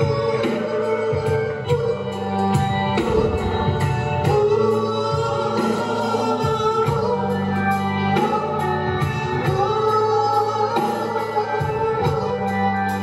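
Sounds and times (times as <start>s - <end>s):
drums keeping steady beat: 0.0s - 13.0s
live soul and blues band: 0.0s - 13.0s
person singing: 0.0s - 13.0s.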